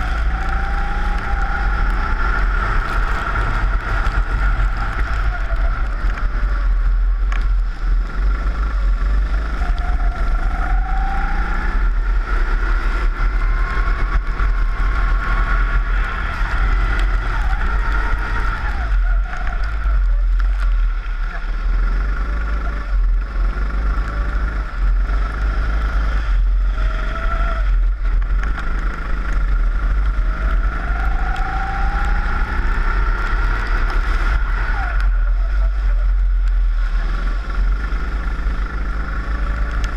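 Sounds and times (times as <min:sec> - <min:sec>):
kart engine revving: 0:00.0 - 0:39.9
wind rumble on microphone: 0:00.0 - 0:39.9.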